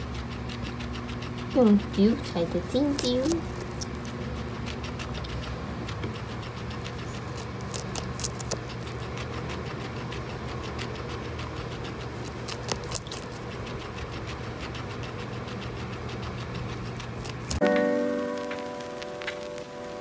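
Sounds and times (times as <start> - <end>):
guinea pig chewing: 0.0 - 20.0
steady low hum: 0.0 - 20.0.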